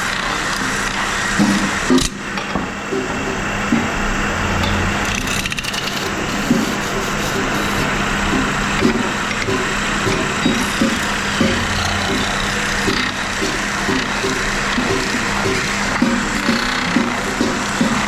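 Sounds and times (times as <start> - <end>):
factory machinery humming: 0.0 - 18.0
machinery knocks and clanks: 1.4 - 18.0.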